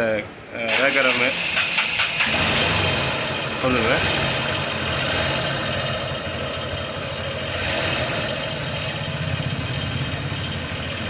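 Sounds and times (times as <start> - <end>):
motorcycle engine idling: 1.6 - 11.0.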